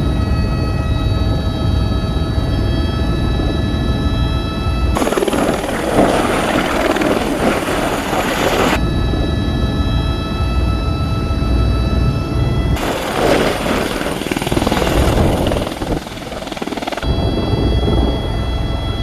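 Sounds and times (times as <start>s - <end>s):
helicopter cabin rotor and engine rumble: 0.0s - 19.0s
high whine: 0.0s - 19.0s.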